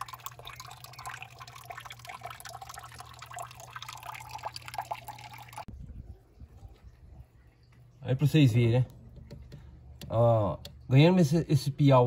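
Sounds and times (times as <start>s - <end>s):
water trickling into fish tank: 0.0s - 12.0s.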